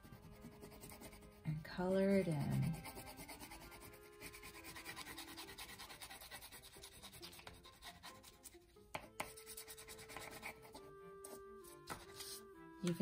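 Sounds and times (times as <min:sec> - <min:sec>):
crayon scratching on paper: 0:00.0 - 0:13.0
quiet background music: 0:00.0 - 0:13.0.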